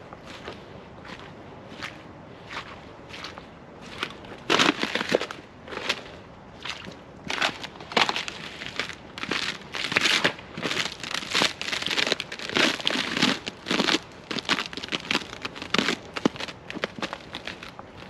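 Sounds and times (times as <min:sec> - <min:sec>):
footsteps crunching on forest trail: 0:00.0 - 0:18.0.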